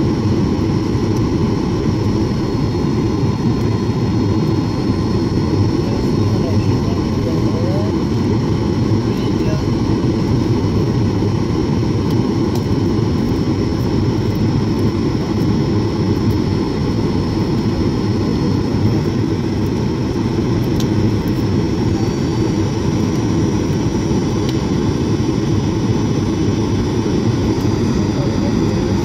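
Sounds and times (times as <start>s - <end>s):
jet engines roaring in cabin: 0.0s - 29.0s.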